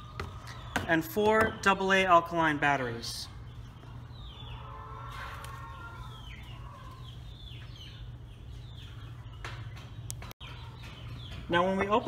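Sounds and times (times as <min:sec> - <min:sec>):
chickens calling: 0:00.0 - 0:12.0.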